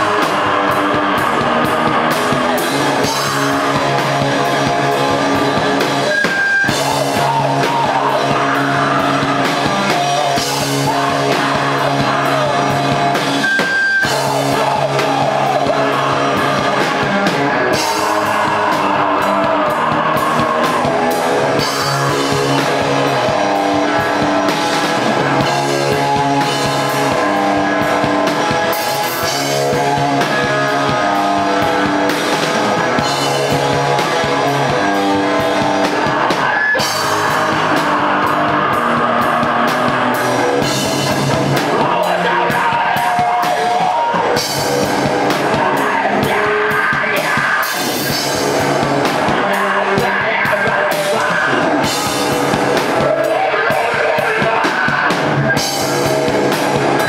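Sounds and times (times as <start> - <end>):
drum kit: 0.0 - 57.0
electric guitars: 0.0 - 57.0
person singing: 0.0 - 57.0.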